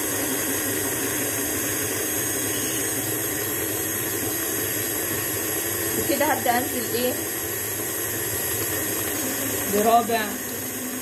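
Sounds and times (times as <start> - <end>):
beater churning thick batter: 0.0 - 11.0
electric stand mixer running: 0.0 - 11.0.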